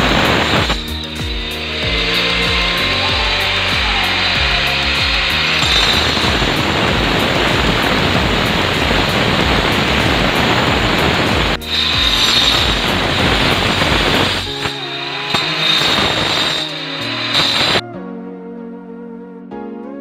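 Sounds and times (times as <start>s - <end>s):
angle grinder cutting stone: 0.0s - 17.8s.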